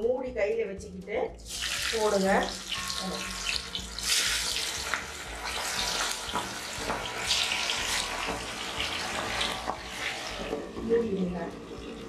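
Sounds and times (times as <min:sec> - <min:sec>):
fish deep-frying in oil: 0:01.4 - 0:12.0.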